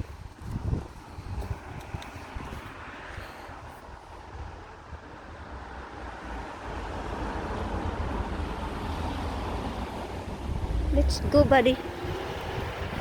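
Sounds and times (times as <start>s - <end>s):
wind buffeting microphone: 0.0s - 5.5s, 6.8s - 13.0s.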